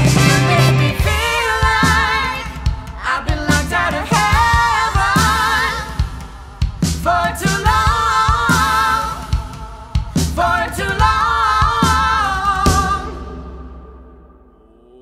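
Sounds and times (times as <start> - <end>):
band playing with drums: 0.0 - 14.0
singers in harmony: 0.0 - 15.0.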